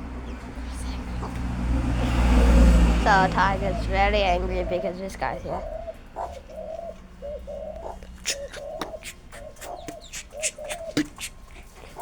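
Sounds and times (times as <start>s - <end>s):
bird calling in low notes: 2.2s - 12.0s.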